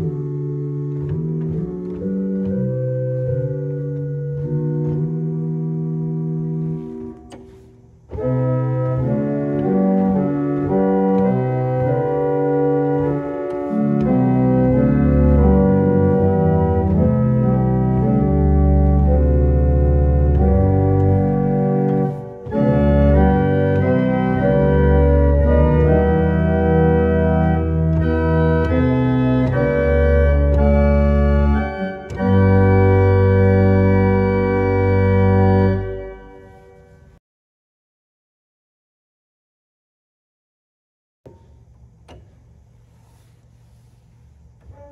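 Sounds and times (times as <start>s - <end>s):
deep organ bass notes: 0.0s - 7.3s, 7.9s - 36.6s
pipe organ chords: 0.0s - 37.2s.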